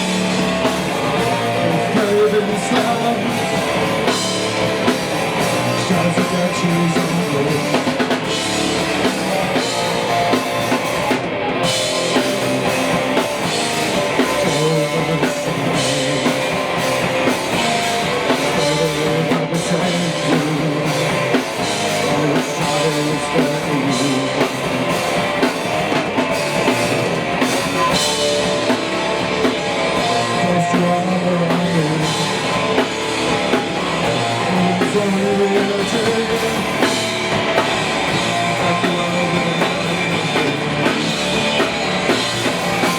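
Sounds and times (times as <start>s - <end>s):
drum kit: 0.0s - 42.9s
electric guitar: 0.0s - 42.9s.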